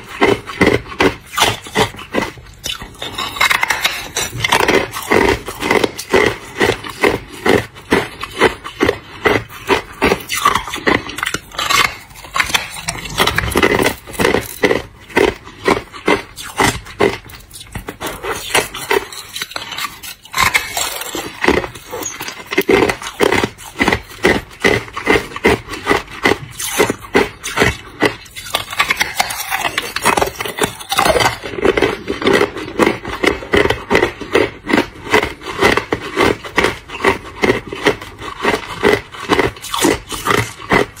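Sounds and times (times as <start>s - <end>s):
teeth crunching ice: 0.0s - 41.0s.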